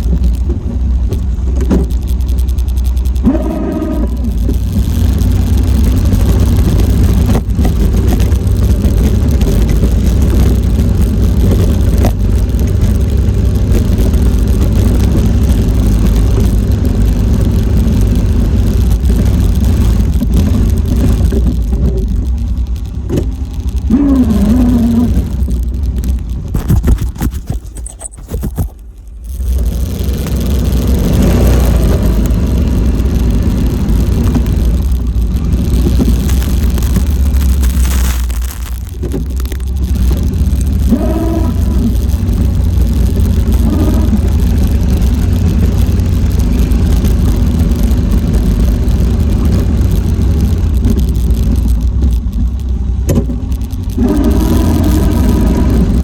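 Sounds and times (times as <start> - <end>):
quad bike engine rumbling: 0.0 - 56.0.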